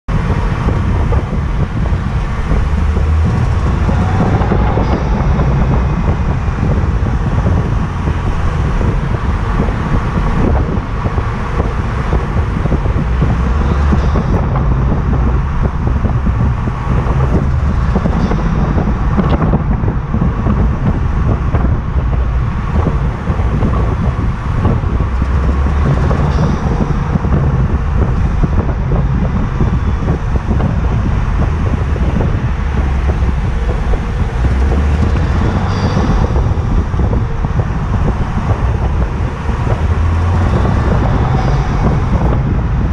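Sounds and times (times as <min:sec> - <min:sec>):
car engine accelerating: 0:00.0 - 0:42.9
engine ticking noise: 0:00.1 - 0:42.9.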